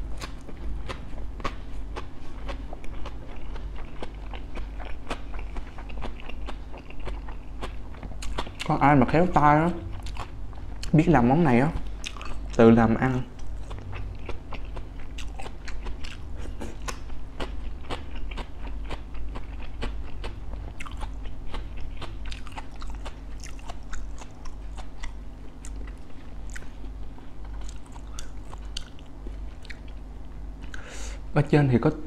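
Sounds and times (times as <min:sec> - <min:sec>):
crispy food crunching as chewed: 0:00.0 - 0:09.0, 0:09.8 - 0:30.9.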